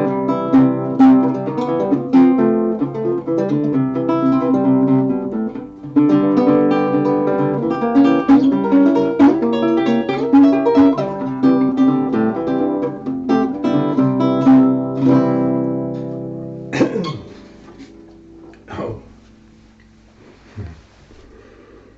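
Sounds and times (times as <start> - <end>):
nylon-string guitar fingerstyle: 0.0 - 21.8.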